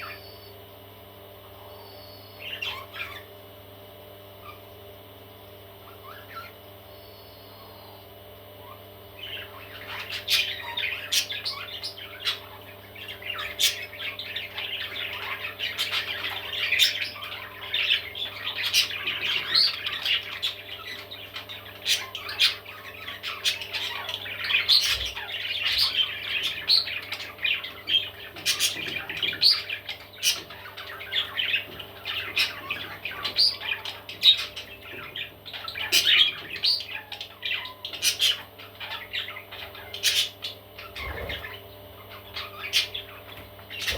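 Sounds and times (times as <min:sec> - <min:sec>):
steady low hum: 0:00.0 - 0:43.9
baby parrots squawking: 0:01.6 - 0:03.3, 0:04.4 - 0:04.7, 0:05.8 - 0:06.6, 0:08.6 - 0:43.9.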